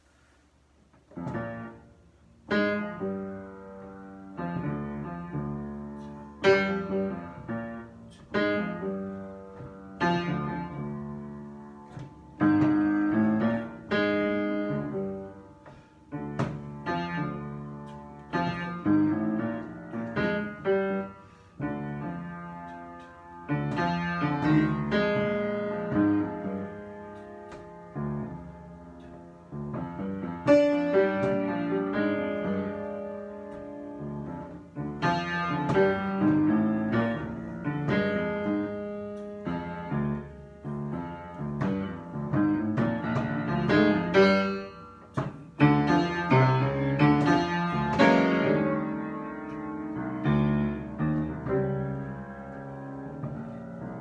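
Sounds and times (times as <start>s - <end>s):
piano chords: 0.0s - 54.0s.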